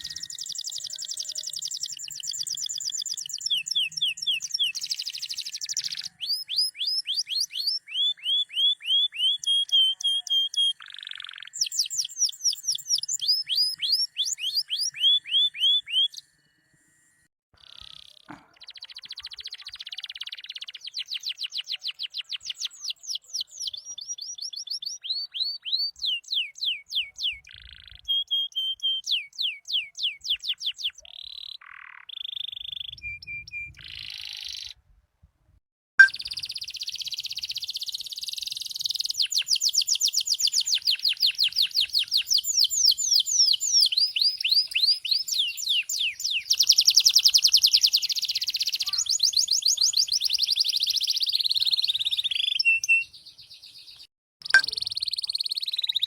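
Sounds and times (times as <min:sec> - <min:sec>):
canary singing: 0:00.0 - 0:16.4, 0:17.6 - 0:34.8, 0:36.0 - 0:56.0.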